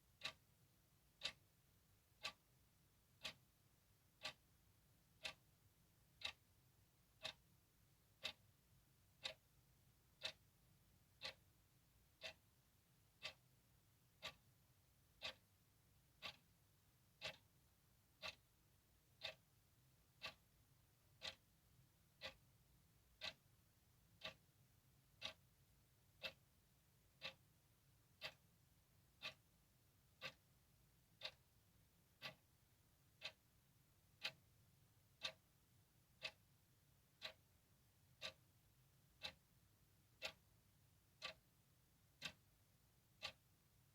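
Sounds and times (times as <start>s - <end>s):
clock ticking: 0.1s - 43.9s.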